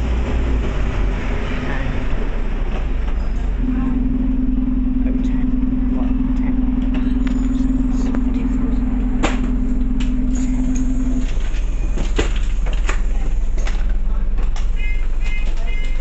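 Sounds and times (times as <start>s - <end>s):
bus body rattling and knocking: 0.0s - 16.0s
bus engine running: 0.0s - 16.0s
low rumble: 0.0s - 16.0s.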